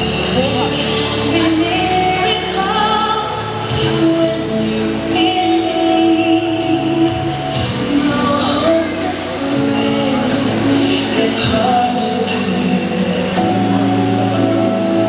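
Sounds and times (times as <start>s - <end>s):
slow music with singing: 0.0s - 15.0s.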